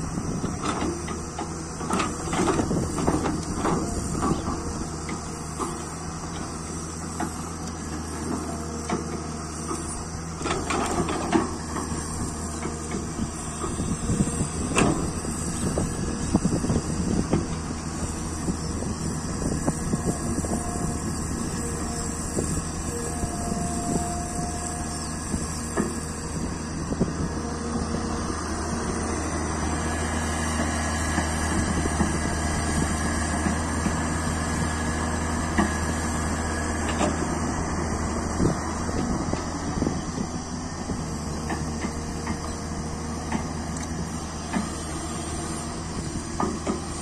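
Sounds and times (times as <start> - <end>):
excavator diesel engine: 0.0 - 47.0.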